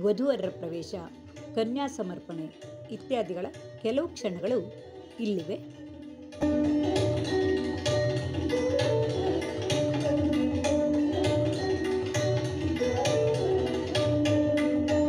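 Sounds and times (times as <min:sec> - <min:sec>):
instrumental melody: 0:00.0 - 0:15.0
tabla drumming: 0:00.0 - 0:15.0.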